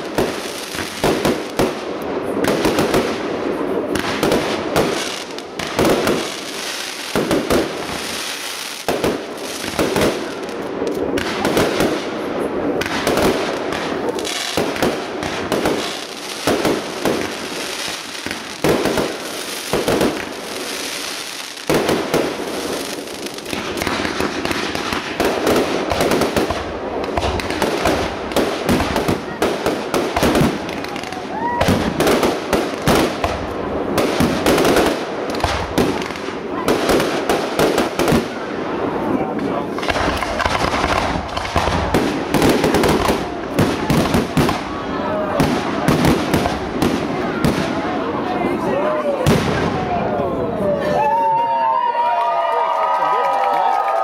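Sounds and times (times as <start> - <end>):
fireworks bangs: 0.0 - 50.5
fireworks crackling: 0.0 - 54.0.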